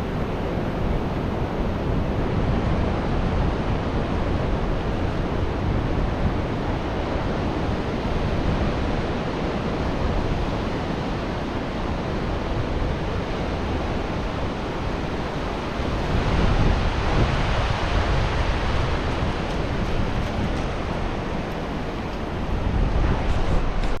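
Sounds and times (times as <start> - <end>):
ocean waves breaking on beach: 0.1 - 24.0.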